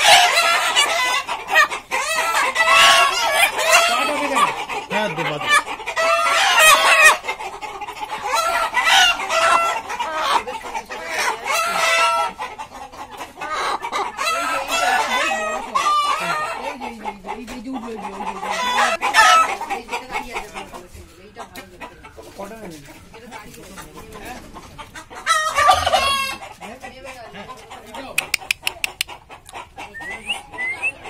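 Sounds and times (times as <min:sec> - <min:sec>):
chickens calling: 0:00.0 - 0:31.0.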